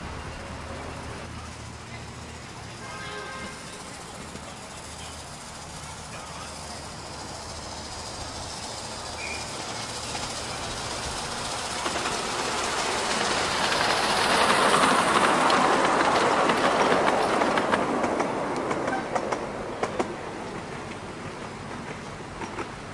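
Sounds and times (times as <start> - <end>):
miniature train passing: 0.0 - 22.9
wheels clicking over rail joints: 3.6 - 22.9.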